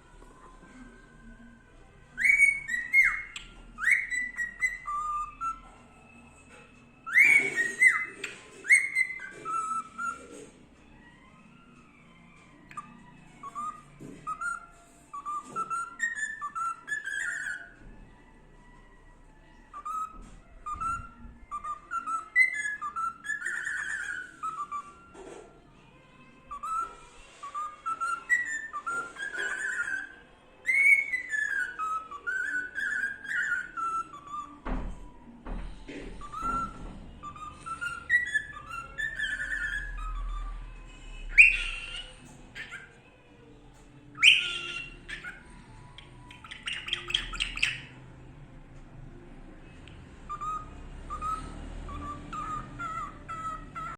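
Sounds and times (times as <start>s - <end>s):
cockatiel whistling a tune: 2.1s - 10.4s, 11.0s - 25.4s, 26.1s - 43.0s, 44.0s - 48.2s, 50.2s - 53.9s.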